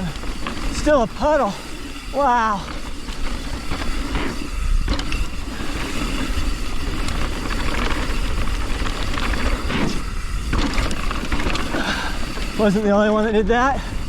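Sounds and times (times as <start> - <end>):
bike rattling and knocking: 0.0 - 14.0
tyres rolling over dirt: 0.0 - 14.0
wind buffeting microphone: 0.0 - 14.0.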